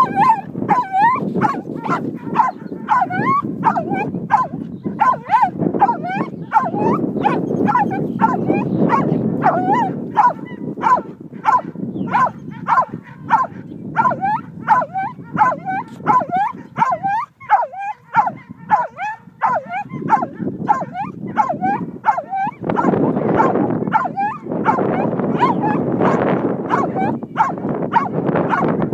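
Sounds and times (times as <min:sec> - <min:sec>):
dog yipping and whining: 0:00.0 - 0:25.8, 0:26.7 - 0:28.6.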